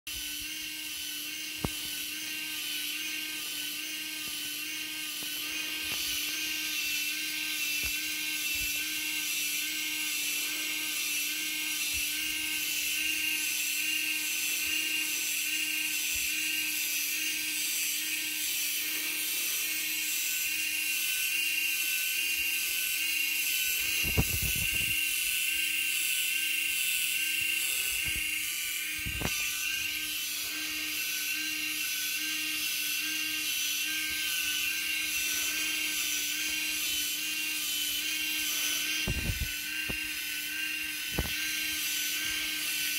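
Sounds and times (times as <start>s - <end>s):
small electric motors humming: 0.1s - 42.9s.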